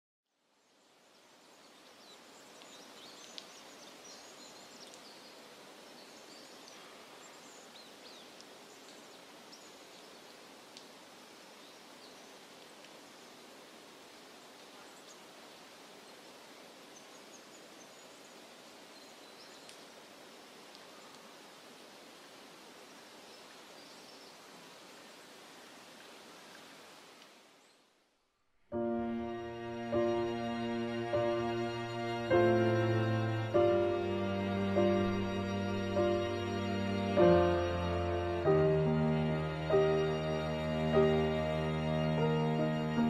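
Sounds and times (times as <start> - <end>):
steady rushing hiss: 0.7 - 43.0.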